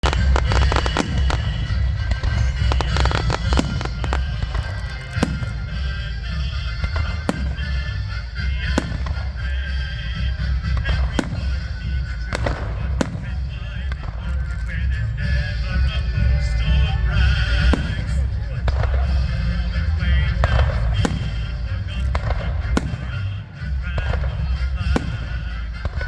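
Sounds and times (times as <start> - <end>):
continuous low rumble: 0.0 - 26.0
fireworks bangs and booms: 0.0 - 26.0.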